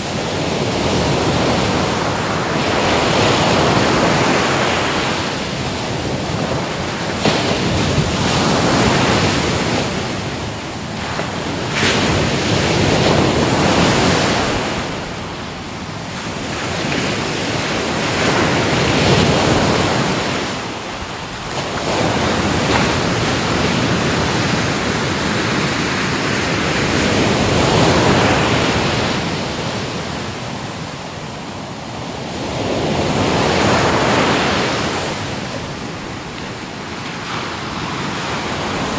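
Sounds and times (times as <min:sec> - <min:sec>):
waves breaking: 0:00.0 - 0:38.9.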